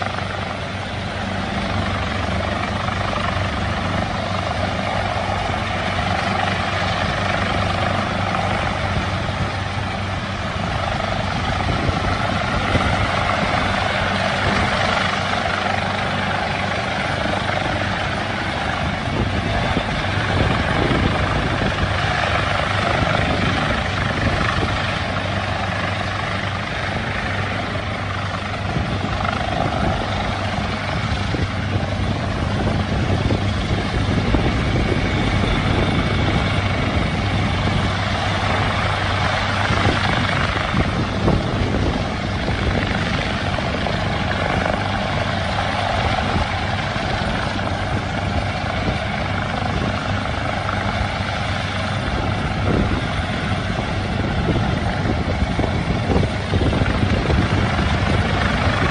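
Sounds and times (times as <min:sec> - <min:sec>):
helicopter engine hum: 0:00.0 - 0:58.9
helicopter rotor beating: 0:00.0 - 0:58.9.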